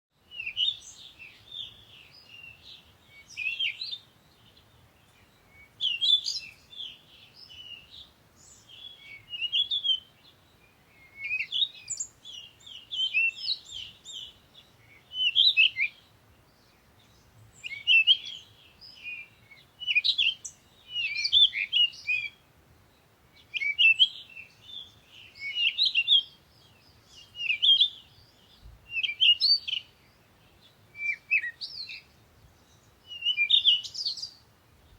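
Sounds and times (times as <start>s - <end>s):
birds chirping and twittering: 0.3s - 34.9s.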